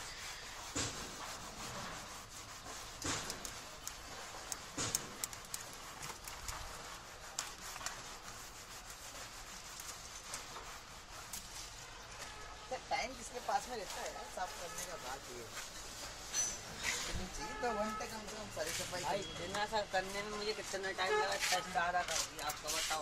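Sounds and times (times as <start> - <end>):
electrical wires rustling: 0.0 - 23.0.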